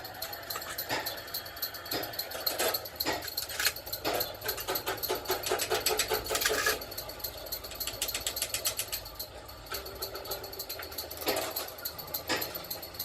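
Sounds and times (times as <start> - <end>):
rapid mechanical clicking: 0.0 - 13.0.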